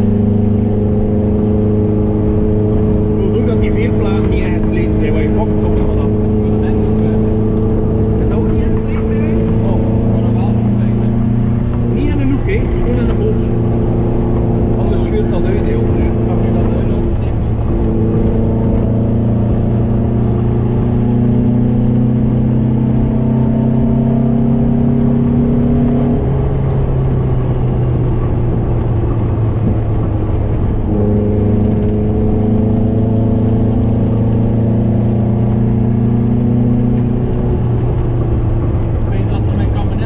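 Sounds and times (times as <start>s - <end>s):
car engine droning: 0.0s - 40.0s.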